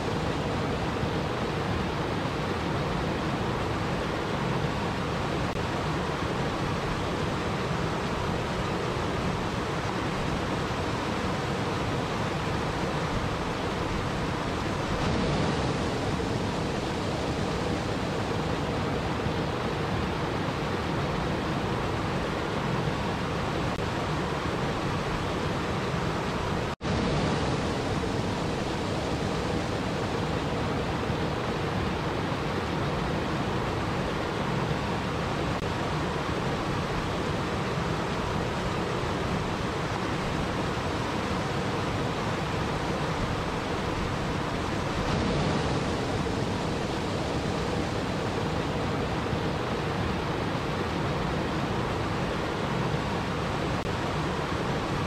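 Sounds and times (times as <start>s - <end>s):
waterfall cascading over boulders: 0.0s - 55.0s.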